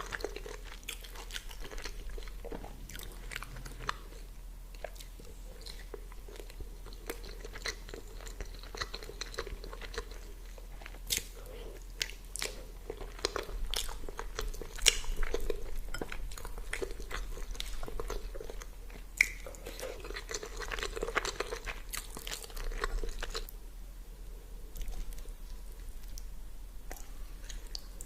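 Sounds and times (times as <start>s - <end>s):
person chewing crunchy food: 0.0s - 23.5s.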